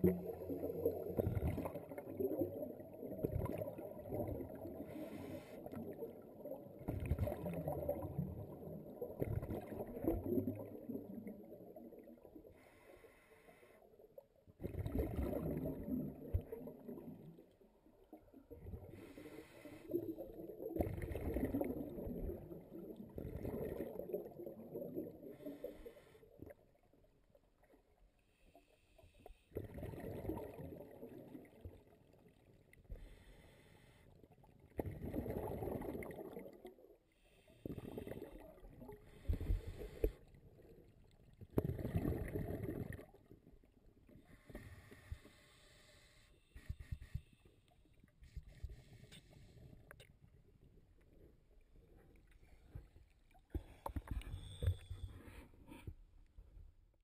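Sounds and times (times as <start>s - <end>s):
scuba regulator bubbles underwater: 0.0s - 13.8s, 14.5s - 28.0s, 29.1s - 33.6s, 34.5s - 55.8s.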